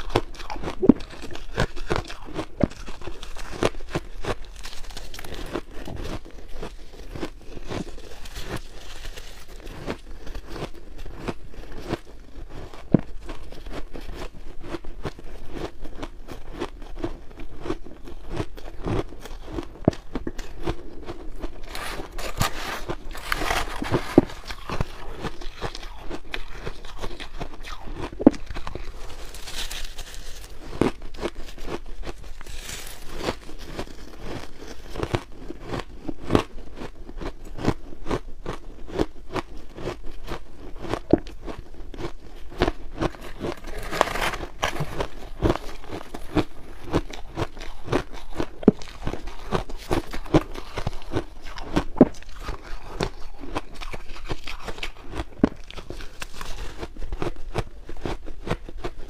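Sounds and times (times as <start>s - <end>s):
ice being chewed: 0.0s - 59.0s.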